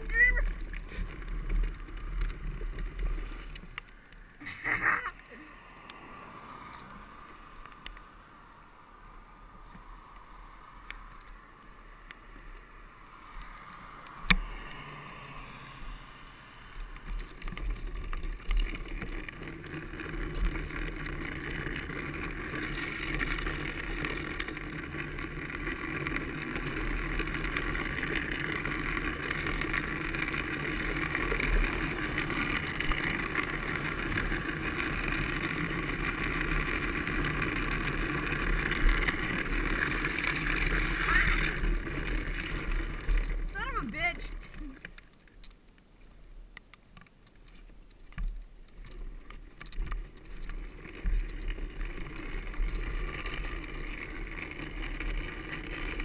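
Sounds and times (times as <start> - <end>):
wheels rushing on wet road: 0.0 - 45.2, 47.4 - 56.0.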